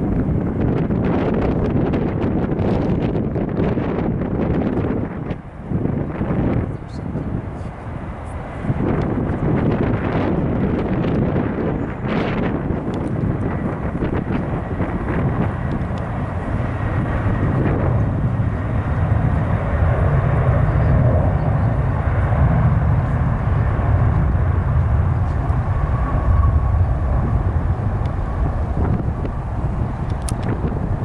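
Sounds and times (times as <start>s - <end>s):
jet engines at takeoff: 0.0s - 31.0s.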